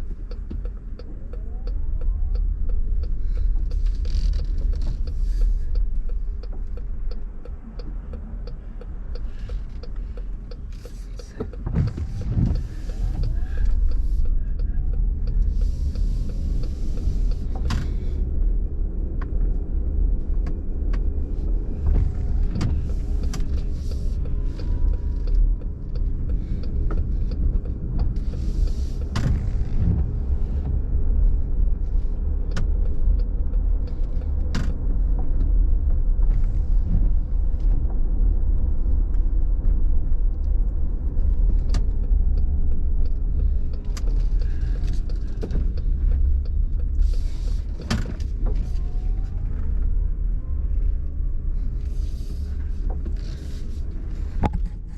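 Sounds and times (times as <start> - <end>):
car cabin rumble: 0.0 - 54.9.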